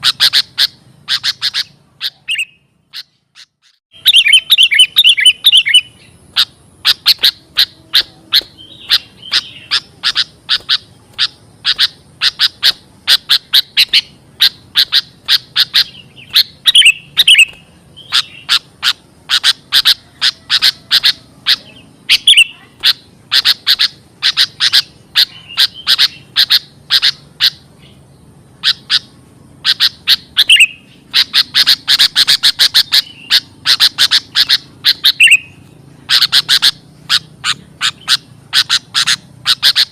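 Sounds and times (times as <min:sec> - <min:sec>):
bird chip notes: 0:00.0 - 0:39.9
bird warbled call: 0:00.0 - 0:39.9.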